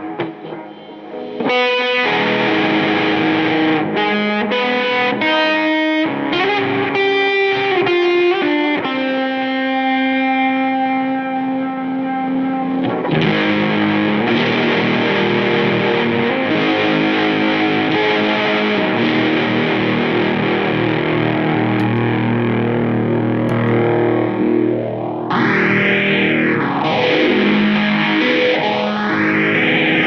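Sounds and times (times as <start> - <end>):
distorted electric guitar: 0.0 - 30.0.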